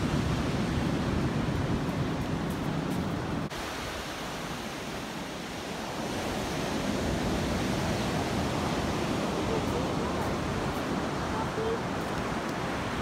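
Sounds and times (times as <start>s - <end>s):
waves washing up sand beach: 0.0s - 13.0s.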